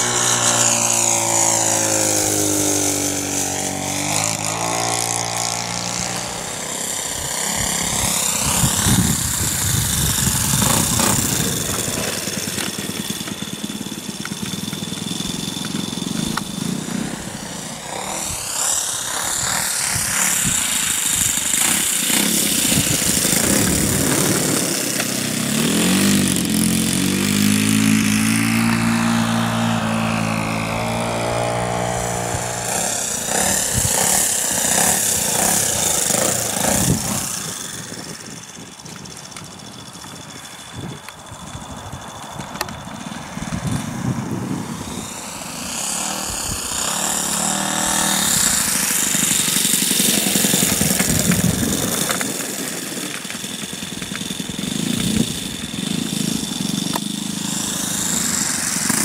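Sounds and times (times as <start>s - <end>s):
model airplane engine flying past: 0.0s - 59.0s.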